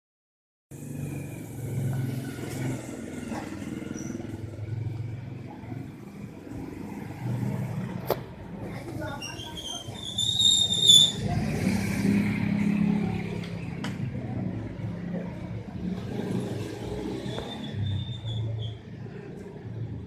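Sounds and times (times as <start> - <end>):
low rumble of passing vehicles: 0.7 - 20.0.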